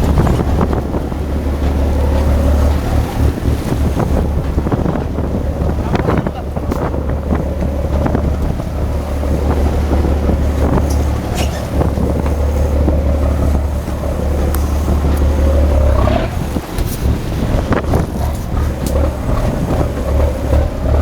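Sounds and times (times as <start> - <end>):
boat engine running: 0.0 - 21.0
wind on microphone: 0.0 - 21.0.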